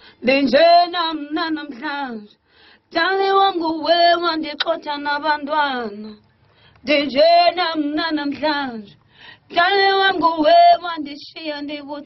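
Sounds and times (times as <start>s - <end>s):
person singing unaccompanied: 0.1s - 12.0s.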